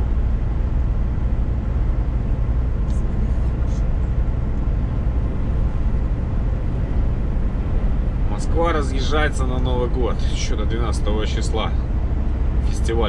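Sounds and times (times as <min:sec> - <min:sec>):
truck engine and tyre drone: 0:00.0 - 0:13.0.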